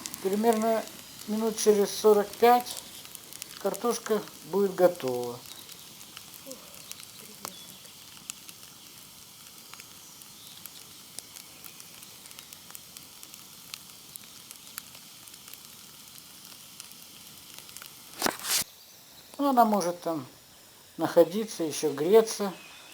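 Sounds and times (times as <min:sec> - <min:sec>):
fire crackling and popping: 0:00.0 - 0:22.9
fire hissing: 0:00.0 - 0:22.9.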